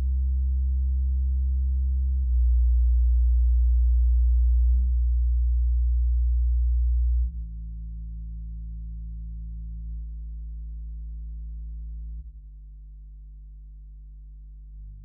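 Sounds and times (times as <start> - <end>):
low bass test tones: 0.0 - 15.0.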